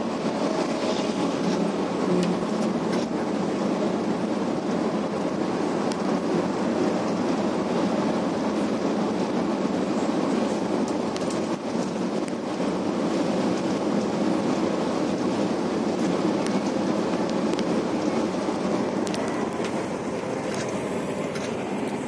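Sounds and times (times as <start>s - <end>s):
bus interior engine drone: 0.0s - 22.0s.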